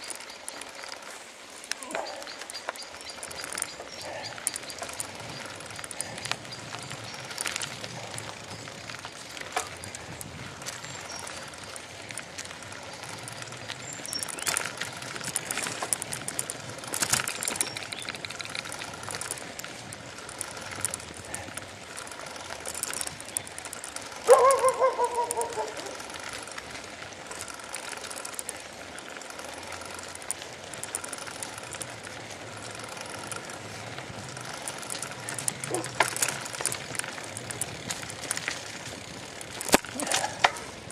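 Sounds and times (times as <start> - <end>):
bicycle rattling on dirt path: 0.0 - 40.9.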